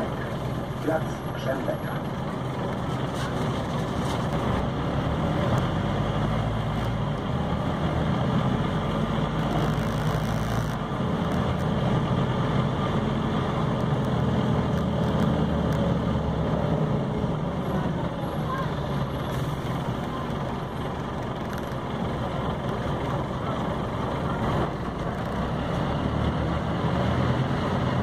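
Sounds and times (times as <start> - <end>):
bus engine rumble: 0.0 - 28.0
road noise: 0.0 - 28.0.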